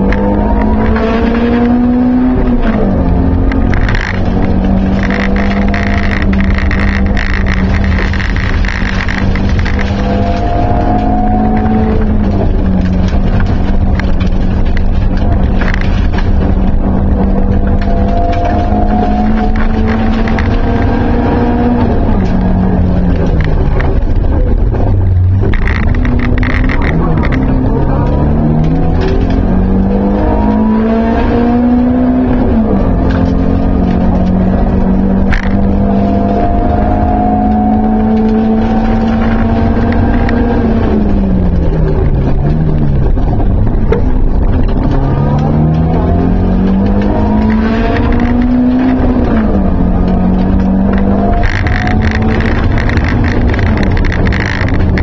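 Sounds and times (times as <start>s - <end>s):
car engine accelerating: 0.0s - 55.0s
gravel crackling under tyres: 0.0s - 55.0s.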